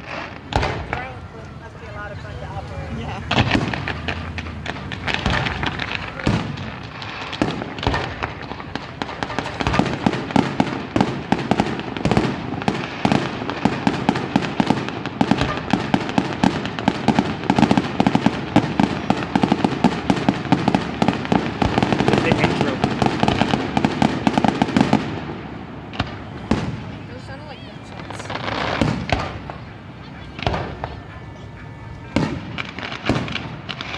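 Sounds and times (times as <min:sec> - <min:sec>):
firework bangs: 0:00.0 - 0:33.9
firework crackling pops: 0:00.0 - 0:33.9.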